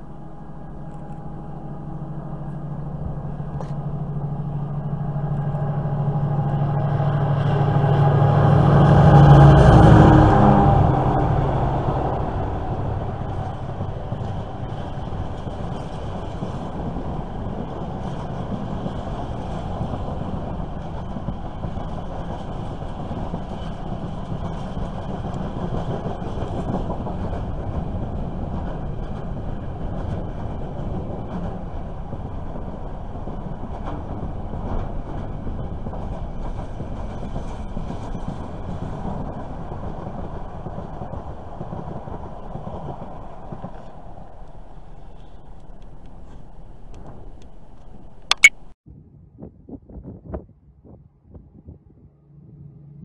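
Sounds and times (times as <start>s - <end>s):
train wheels rumbling on rails: 0.0s - 48.5s
wheels clickety-clack: 0.8s - 48.5s.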